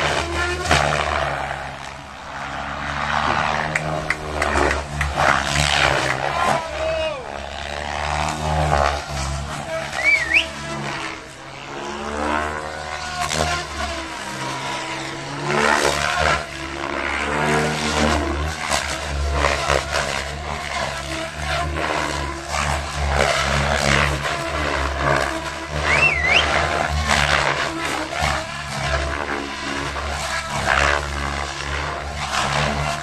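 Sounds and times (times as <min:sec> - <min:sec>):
model helicopter rotor chop: 0:00.0 - 0:33.0.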